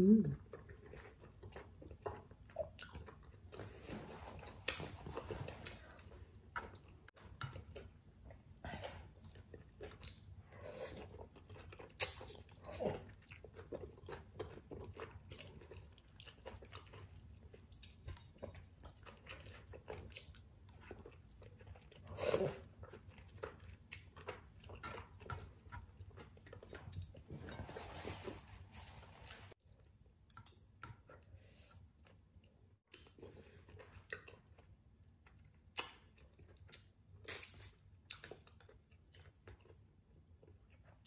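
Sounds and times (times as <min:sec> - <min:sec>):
person chewing: 0:00.4 - 0:27.8, 0:29.8 - 0:41.0.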